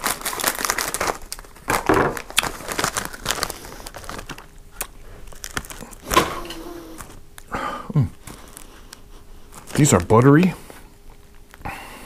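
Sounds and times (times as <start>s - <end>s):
plastic wrapper crinkling: 0.0s - 7.5s, 8.1s - 11.6s.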